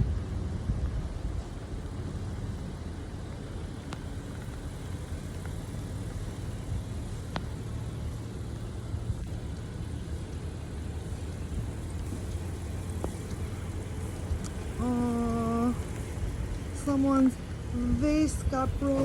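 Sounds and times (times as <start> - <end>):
low rumble: 0.0 - 19.0
steady rain: 0.0 - 19.0.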